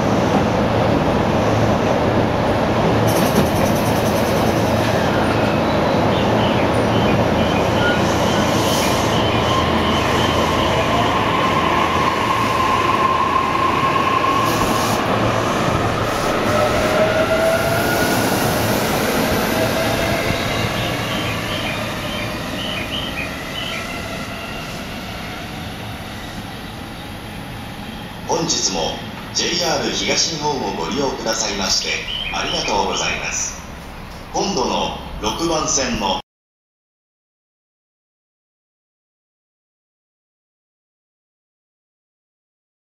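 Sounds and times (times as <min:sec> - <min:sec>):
wheels rumbling on rail: 0:00.0 - 0:35.4.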